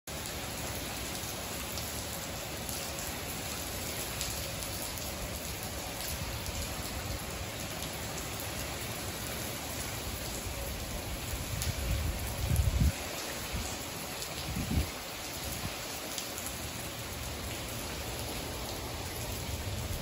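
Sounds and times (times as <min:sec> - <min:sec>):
heavy rain on tiles: 0:00.1 - 0:20.0.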